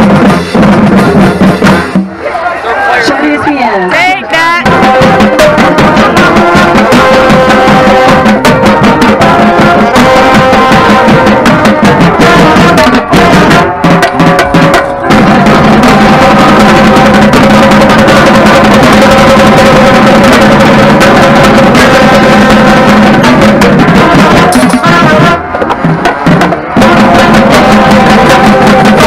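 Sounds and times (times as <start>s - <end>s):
tenor drums rapid strokes: 0.0s - 2.4s, 3.0s - 29.0s
brass and saxophones holding notes: 2.3s - 29.0s.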